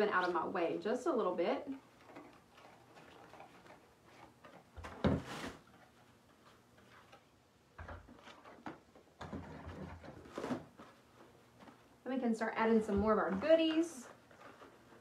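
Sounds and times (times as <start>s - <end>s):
rustling: 1.7s - 15.0s.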